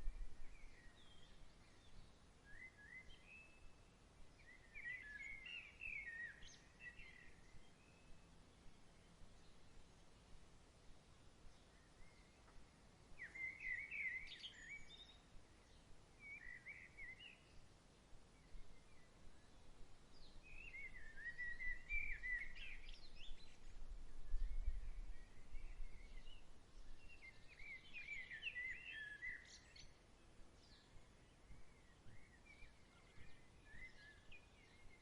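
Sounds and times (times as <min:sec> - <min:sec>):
bird song warbling: 0:00.0 - 0:10.0, 0:11.5 - 0:35.0.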